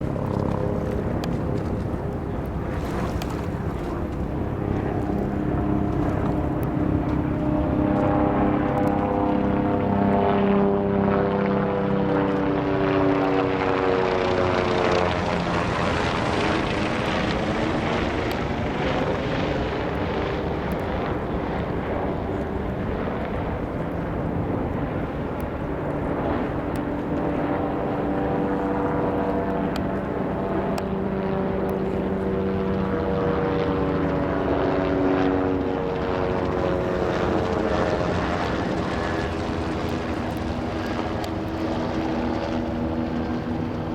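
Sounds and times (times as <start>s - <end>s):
helicopters passing overhead: 0.0s - 43.9s.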